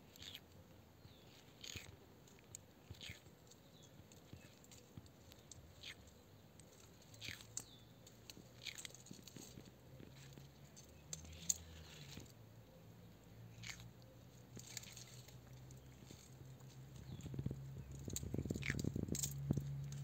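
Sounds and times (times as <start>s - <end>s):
tortoise chewing strawberry: 0.0s - 20.0s.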